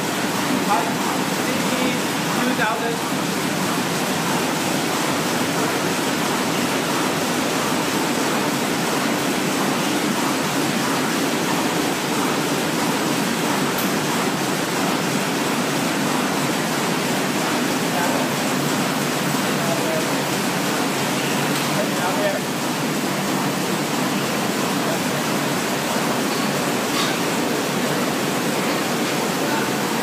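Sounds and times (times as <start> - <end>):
printing press running: 0.0 - 30.0.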